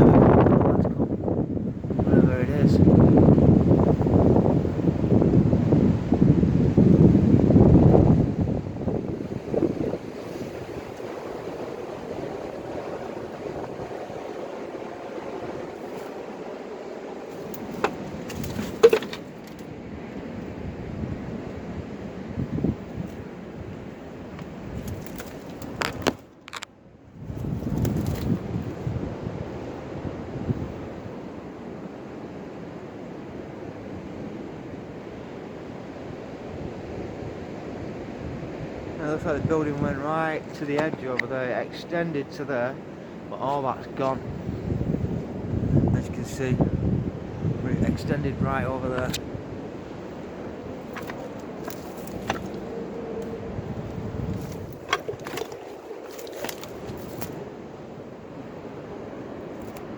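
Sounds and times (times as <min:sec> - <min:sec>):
wind on microphone: 0:00.0 - 0:26.2, 0:26.9 - 0:31.9, 0:35.7 - 0:59.9.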